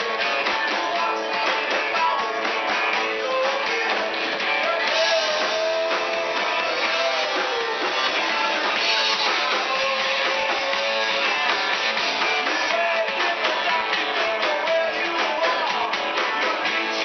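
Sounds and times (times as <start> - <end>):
drums: 0.0 - 17.0
electric guitar strumming: 0.0 - 17.0
person singing: 0.0 - 17.0.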